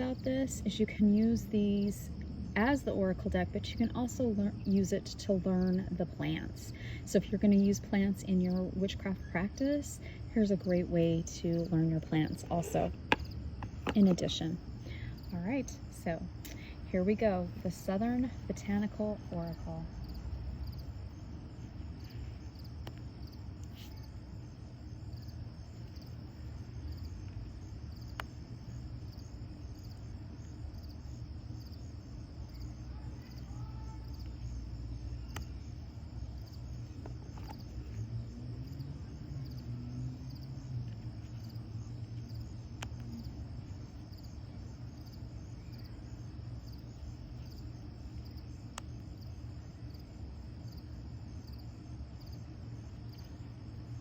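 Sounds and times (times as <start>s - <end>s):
crickets chirping: 0.0s - 54.0s
low steady rumble: 0.0s - 54.0s.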